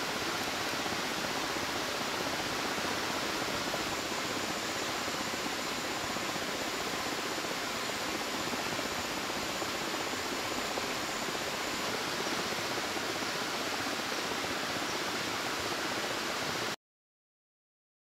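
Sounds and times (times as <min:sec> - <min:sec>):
river water rushing: 0:00.0 - 0:16.7.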